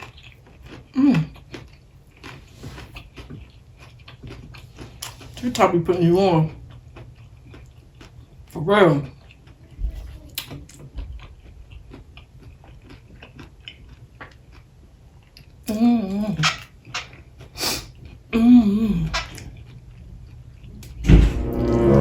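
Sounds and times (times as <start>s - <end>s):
crunchy chewing: 0.0s - 5.6s, 6.5s - 15.7s, 16.4s - 18.4s, 19.0s - 21.0s.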